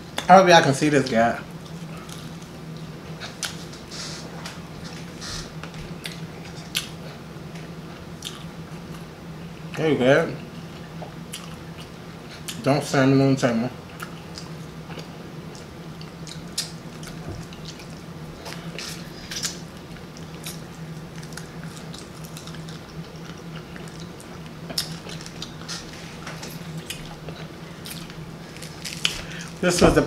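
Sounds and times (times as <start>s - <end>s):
steady low hum: 0.0s - 30.0s
chewing and lip-smacking: 1.6s - 3.8s, 4.4s - 9.1s, 10.8s - 12.6s, 13.9s - 29.6s.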